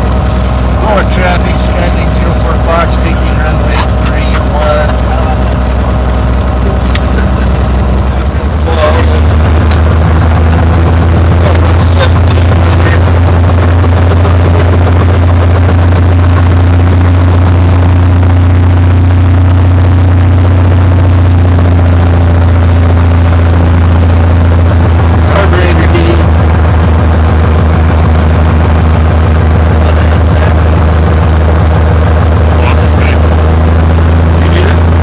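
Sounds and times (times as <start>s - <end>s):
airplane engine and propeller drone: 0.0s - 35.0s.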